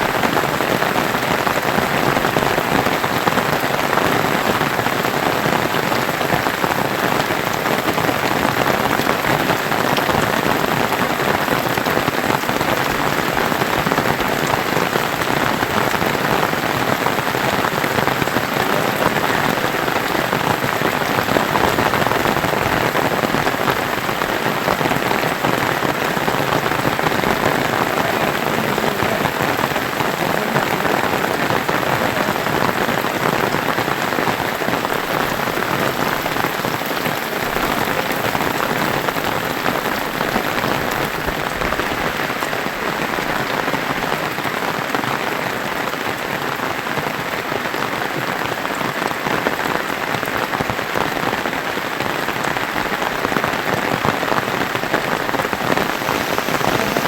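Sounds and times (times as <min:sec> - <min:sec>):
heavy rain patter: 0:00.0 - 0:57.0.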